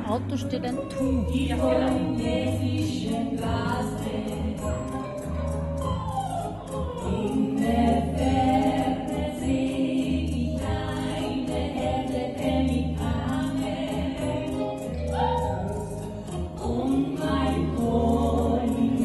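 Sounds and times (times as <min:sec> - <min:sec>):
instrumental accompaniment with pulsing bass: 0:00.0 - 0:19.0
women singing into microphones: 0:00.3 - 0:05.2, 0:06.0 - 0:19.0.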